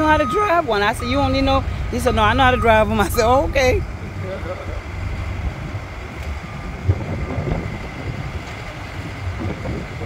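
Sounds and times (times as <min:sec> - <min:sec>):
diesel equipment idling: 0:00.0 - 0:10.0
wind buffeting microphone: 0:00.0 - 0:10.0.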